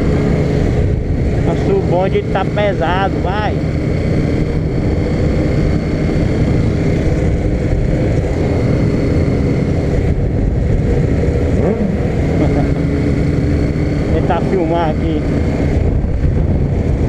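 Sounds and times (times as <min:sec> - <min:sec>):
motorcycle engine running: 0:00.0 - 0:17.0
other motorcycles: 0:00.0 - 0:17.0.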